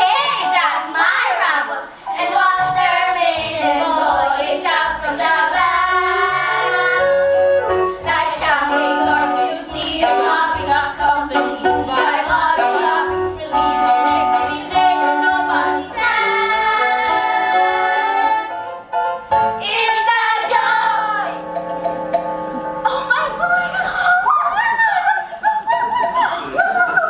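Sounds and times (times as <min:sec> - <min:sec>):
musical accompaniment: 0:00.0 - 0:27.0.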